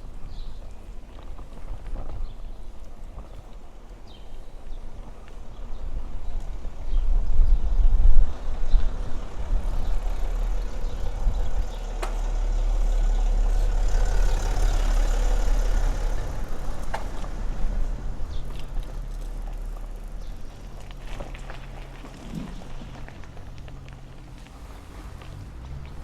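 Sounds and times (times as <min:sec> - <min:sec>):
wind rumbling on microphone: 0:00.0 - 0:26.0
road vehicle passing: 0:04.6 - 0:26.0.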